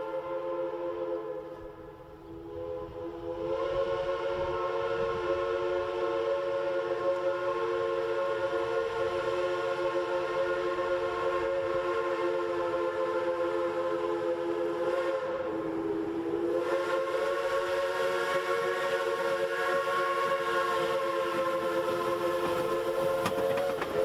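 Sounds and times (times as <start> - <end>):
steam locomotive chime whistle: 0.0 - 24.0.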